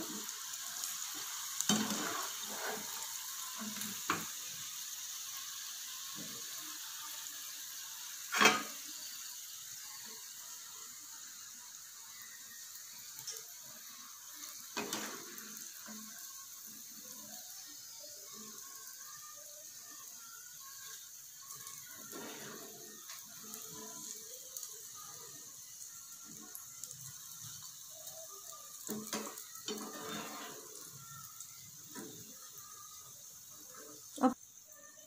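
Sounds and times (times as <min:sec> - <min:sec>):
okra deep-frying in oil: 0:00.0 - 0:35.0.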